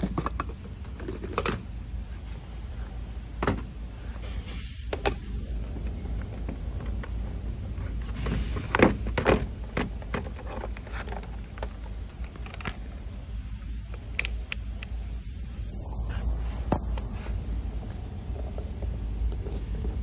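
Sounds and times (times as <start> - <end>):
steady low rumble: 0.6 - 20.0.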